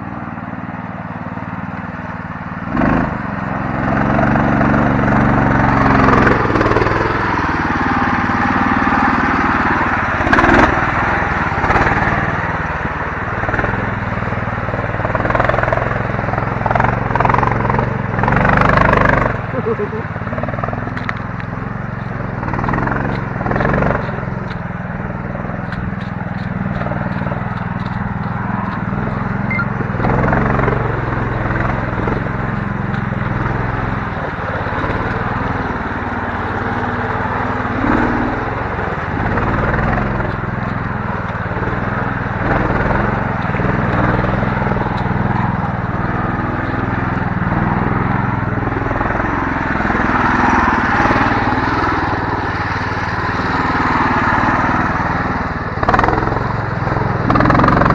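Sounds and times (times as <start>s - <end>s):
small vehicle engine running: 0.0s - 57.9s.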